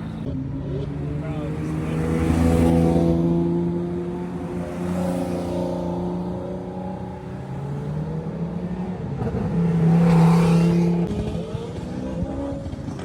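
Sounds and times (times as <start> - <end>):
sports car engines: 0.0 - 13.0.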